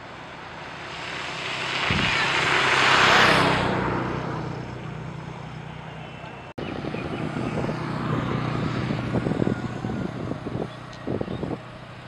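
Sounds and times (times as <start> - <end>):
low steady engine hum: 0.0 - 12.0
vehicle passing by: 0.0 - 12.0.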